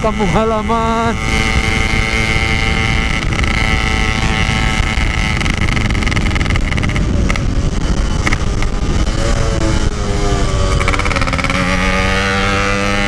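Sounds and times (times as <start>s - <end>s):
two-stroke motorcycle engine buzzing: 0.0s - 13.0s
wind on microphone: 0.0s - 13.0s.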